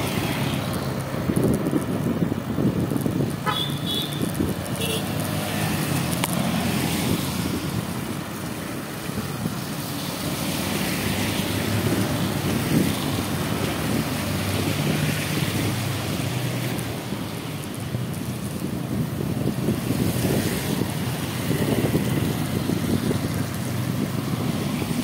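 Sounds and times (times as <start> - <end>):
vehicle engine rumble: 0.0 - 25.0
wind buffeting microphone: 0.0 - 25.0.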